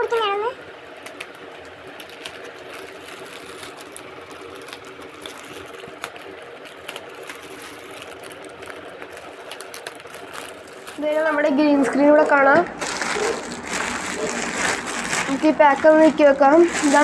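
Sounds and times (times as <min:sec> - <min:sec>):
background hum: 0:00.0 - 0:17.0
plastic bag crinkling: 0:00.0 - 0:17.0
plastic tearing crackles: 0:00.0 - 0:17.0.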